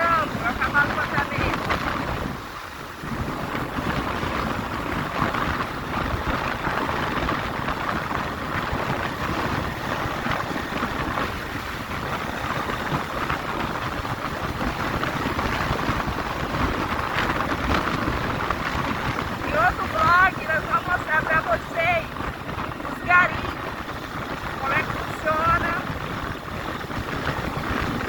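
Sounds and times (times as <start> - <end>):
road and motor noise: 0.0 - 28.0
wind rushing over microphone: 0.0 - 28.0.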